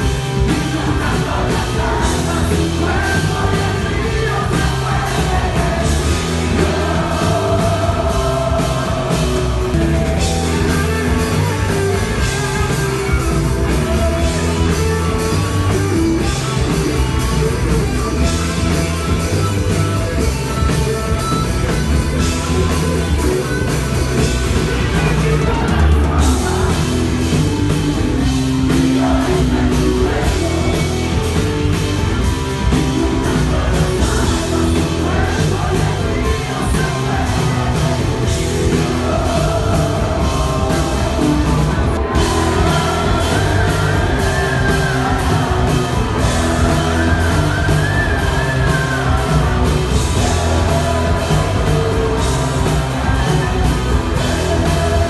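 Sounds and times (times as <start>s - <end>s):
man singing: 0.0s - 19.4s, 22.2s - 31.8s, 32.6s - 55.0s
drum kit: 0.0s - 55.0s
electric guitars: 0.0s - 55.0s.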